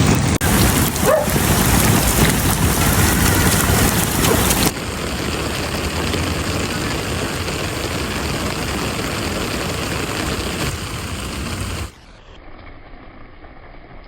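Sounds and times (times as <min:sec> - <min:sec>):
heavy rain falling: 0:00.0 - 0:12.1
low rumble: 0:00.0 - 0:13.8.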